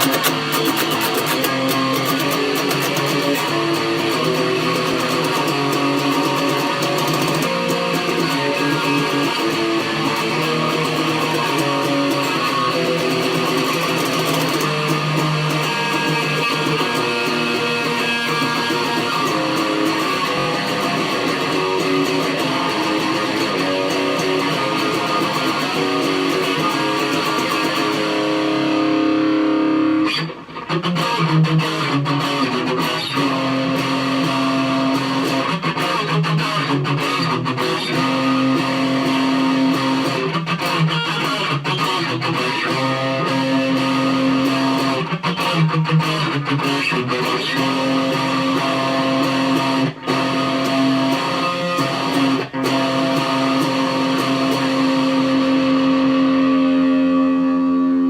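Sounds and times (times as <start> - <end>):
electric guitar riff: 0.0 - 58.0.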